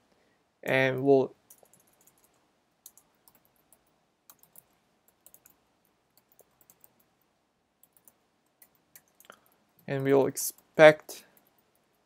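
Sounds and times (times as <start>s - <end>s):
computer keyboard typing: 0.9s - 5.6s, 6.2s - 7.1s, 7.8s - 12.0s.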